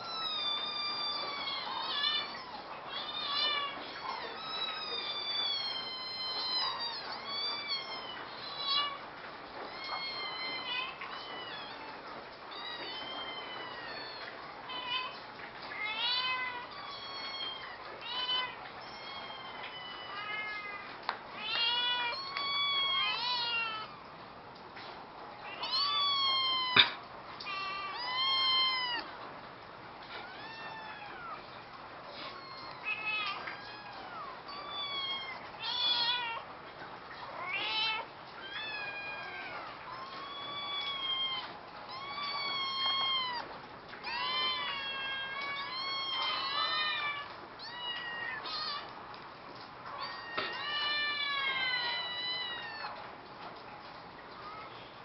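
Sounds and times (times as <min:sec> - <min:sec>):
cat meowing: 0:00.0 - 0:09.0, 0:09.7 - 0:24.0, 0:25.5 - 0:29.1, 0:30.1 - 0:31.5, 0:32.1 - 0:36.5, 0:37.3 - 0:48.9, 0:49.9 - 0:53.0.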